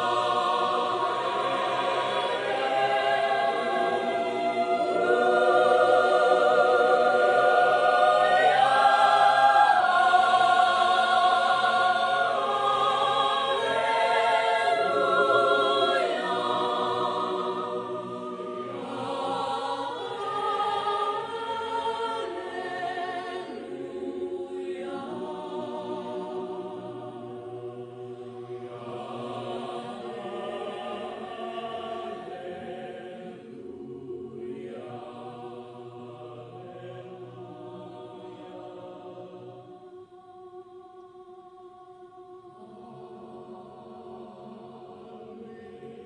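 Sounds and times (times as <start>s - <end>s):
choir singing in harmony: 0.0s - 46.0s.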